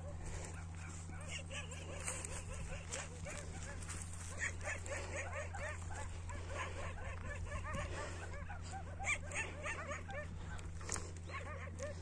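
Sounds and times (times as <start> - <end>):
dogs whimpering and yelping: 0.0 - 12.0
steady low hum: 0.0 - 12.0.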